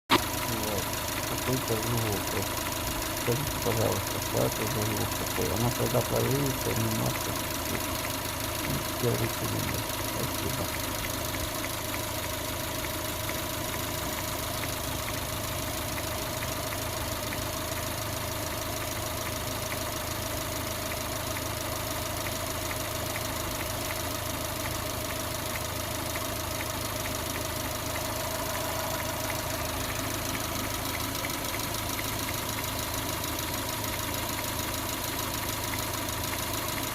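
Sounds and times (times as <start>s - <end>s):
car engine idling: 0.1s - 36.9s
engine knocking: 0.1s - 36.9s.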